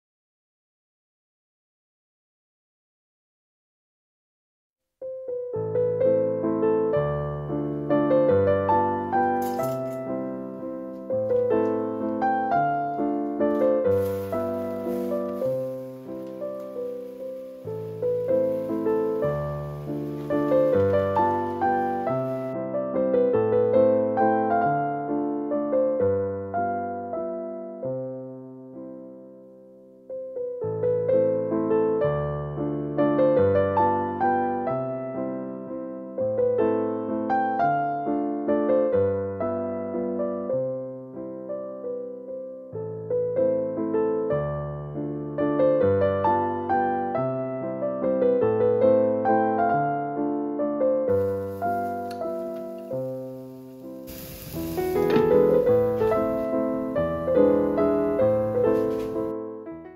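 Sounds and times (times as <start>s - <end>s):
background piano music: 5.0s - 59.9s.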